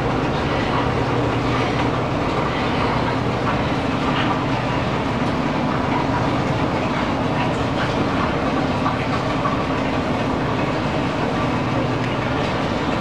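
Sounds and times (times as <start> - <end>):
countertop steamer humming: 0.0 - 13.0.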